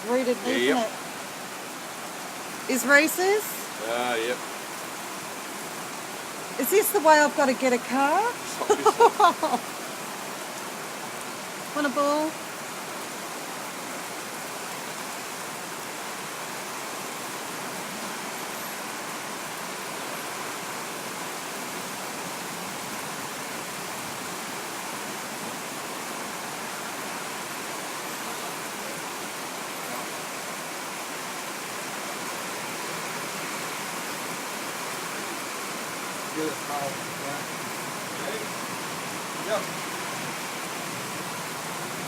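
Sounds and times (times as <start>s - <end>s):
heavy rain: 0.0s - 42.0s
rushing floodwater: 0.0s - 42.0s.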